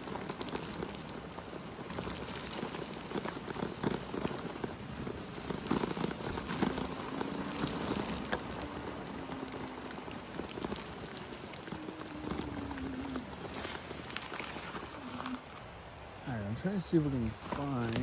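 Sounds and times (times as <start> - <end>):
faint motor whine: 0.0 - 18.0
tyres rolling over wet sand: 0.0 - 18.0.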